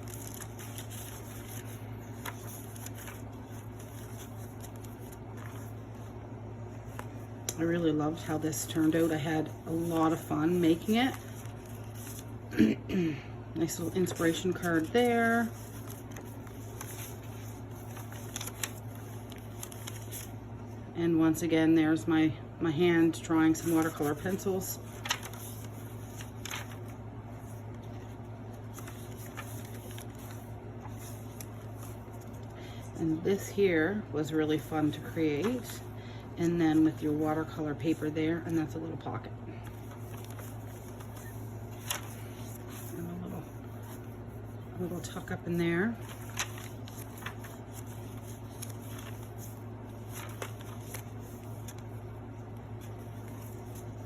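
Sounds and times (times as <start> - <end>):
paper pages rustling: 0.0 - 12.5, 13.6 - 20.8, 23.0 - 32.6, 33.3 - 39.0, 39.6 - 54.0
steady low hum: 0.0 - 54.0.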